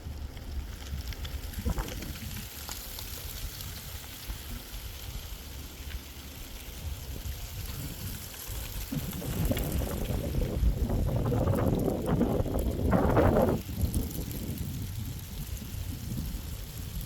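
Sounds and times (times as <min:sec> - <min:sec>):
wind buffeting microphone: 0:00.9 - 0:05.4, 0:06.6 - 0:17.0.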